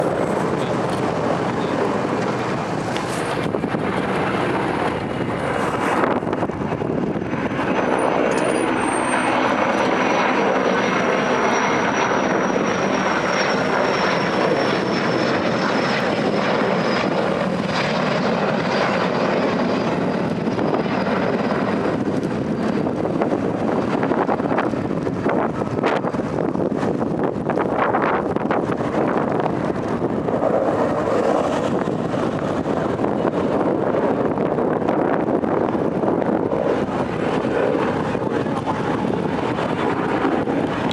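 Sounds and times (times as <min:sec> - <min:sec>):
helicopter running: 0:00.0 - 0:40.9.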